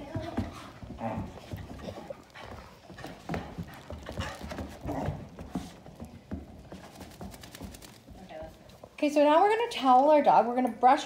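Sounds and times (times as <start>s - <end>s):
paw steps: 0.0s - 9.0s
dogs scuffling: 0.0s - 9.4s.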